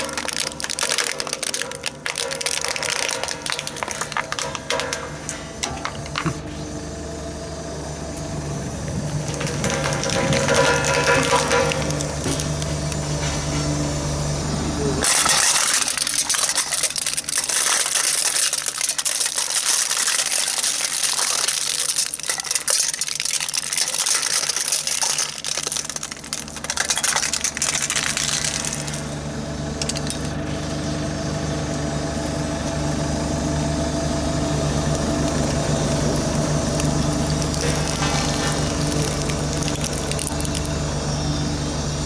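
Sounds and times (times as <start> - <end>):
objects crackling and crunching: 0.0 - 6.7, 8.0 - 14.4, 15.0 - 41.4
road roller engine running: 0.0 - 15.2, 20.7 - 42.0.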